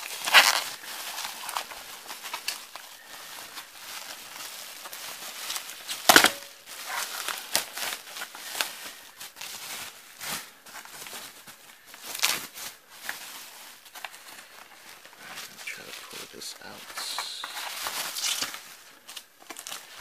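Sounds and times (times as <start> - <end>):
bubble wrap crackling crunch: 0.0 - 20.0
bubble wrap crinkling: 0.0 - 20.0.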